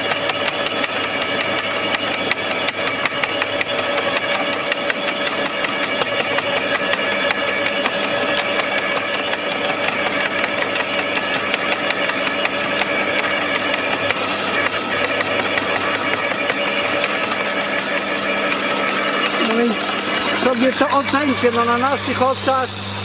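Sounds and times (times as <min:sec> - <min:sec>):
garden shredder motor humming: 0:00.0 - 0:23.0.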